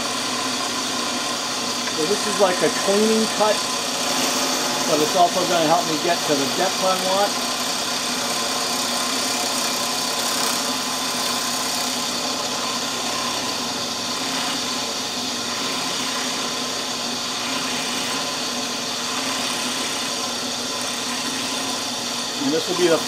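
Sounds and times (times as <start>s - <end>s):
milling machine cutting wood: 0.0s - 23.0s.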